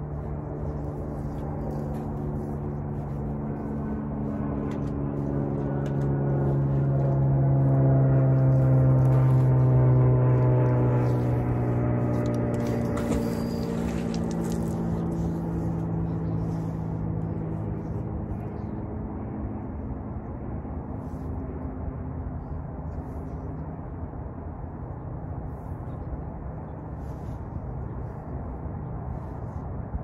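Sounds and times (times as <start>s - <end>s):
low engine rumble: 0.0s - 30.0s
pitched hum: 0.0s - 30.0s.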